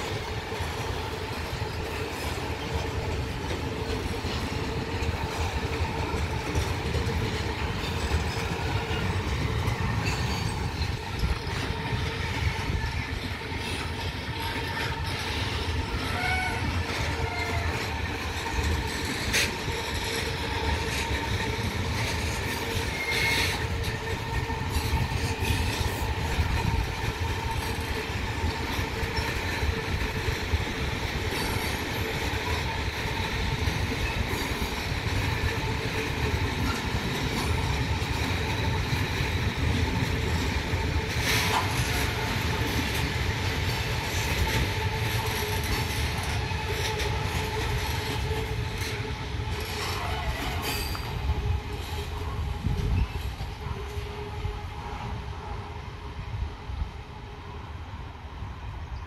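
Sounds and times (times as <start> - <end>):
wheels clacking over rail joints: 0.0 - 53.6
steel wheels rumbling on rails: 0.0 - 59.0.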